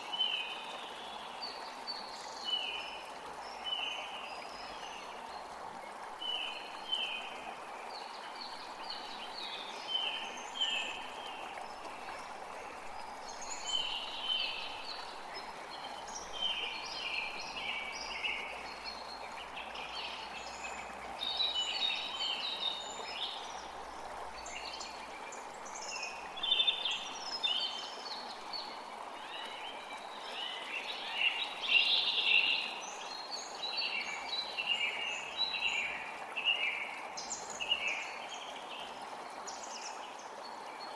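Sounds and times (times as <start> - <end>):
creek flowing: 0.0 - 40.9
songbirds chirping: 0.0 - 40.9.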